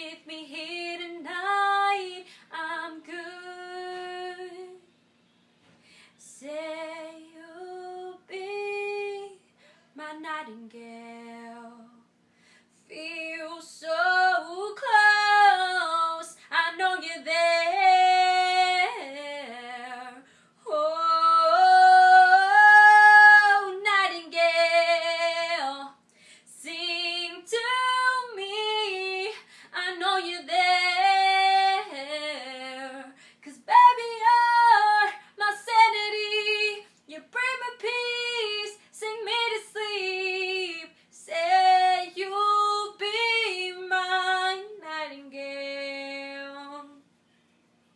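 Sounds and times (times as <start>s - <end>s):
woman singing a cappella: 0.0s - 5.0s, 6.1s - 12.1s, 12.8s - 47.1s.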